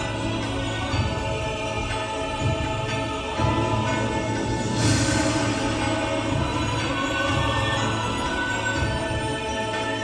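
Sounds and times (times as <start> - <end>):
music with sustained tones: 0.0 - 10.0.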